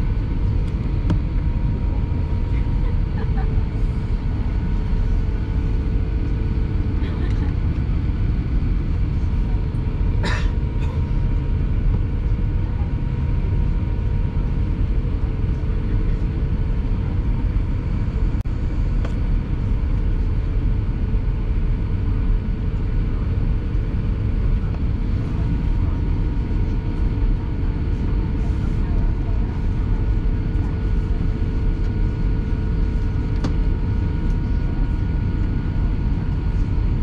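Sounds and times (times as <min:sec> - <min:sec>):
jet engines idling low rumble: 0:00.0 - 0:37.0.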